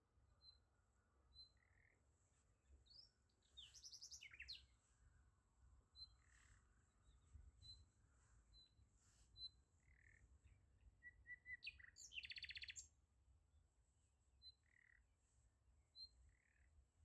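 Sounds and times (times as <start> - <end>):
faint bird chirps: 0.0 - 13.0, 14.3 - 17.0.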